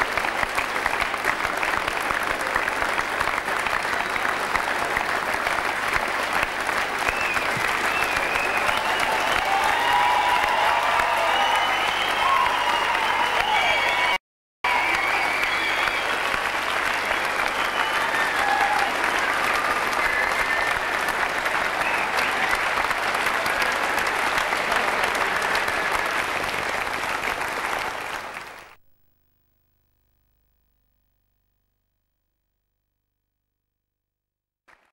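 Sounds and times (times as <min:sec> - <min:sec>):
audience applauding: 0:00.0 - 0:28.8.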